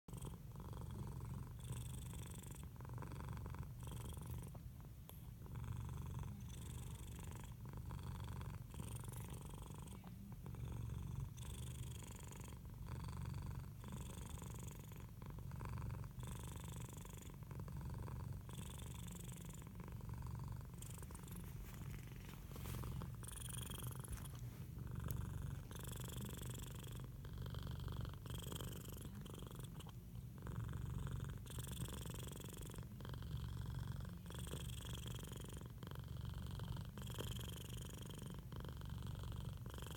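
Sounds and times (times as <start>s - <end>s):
cat purring: 0.1s - 39.9s.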